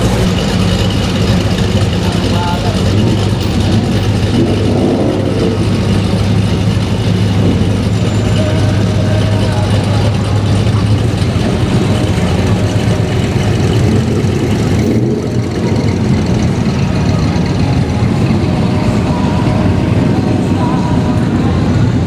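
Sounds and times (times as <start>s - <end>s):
loud background din: 0.0s - 22.0s
vehicle engine idling: 0.0s - 22.0s.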